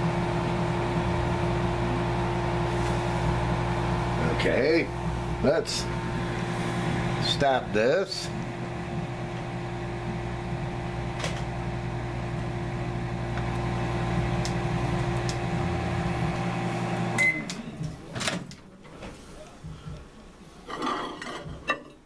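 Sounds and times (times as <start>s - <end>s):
microwave oven humming: 0.0s - 18.5s.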